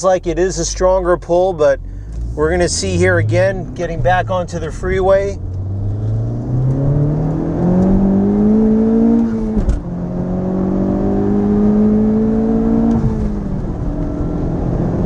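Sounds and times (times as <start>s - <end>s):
car engine accelerating: 0.1s - 15.0s.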